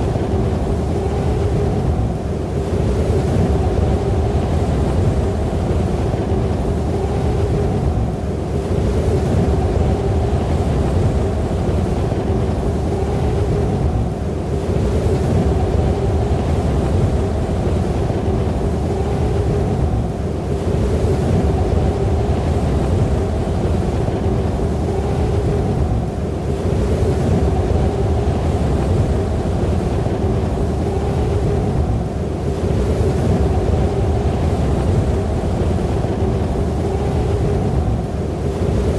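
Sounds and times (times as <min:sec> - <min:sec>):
howling storm wind: 0:00.0 - 0:38.9.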